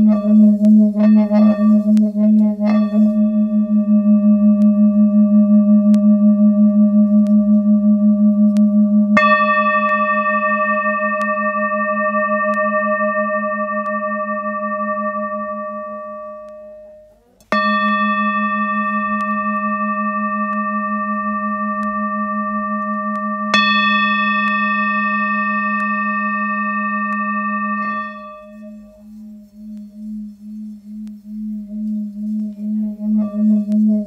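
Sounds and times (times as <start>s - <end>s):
metal singing bowls ringing: 0.0s - 34.0s.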